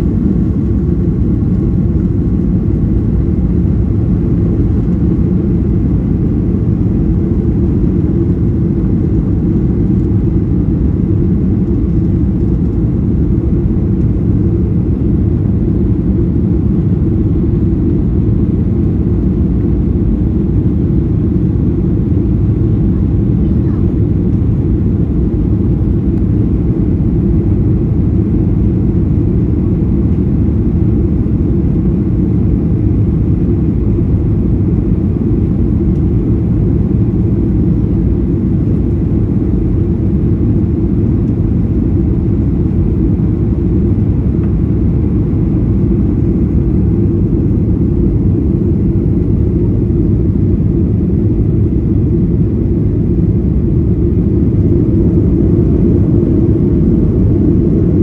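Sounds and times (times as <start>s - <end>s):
jet engine cabin rumble: 0.0s - 58.0s.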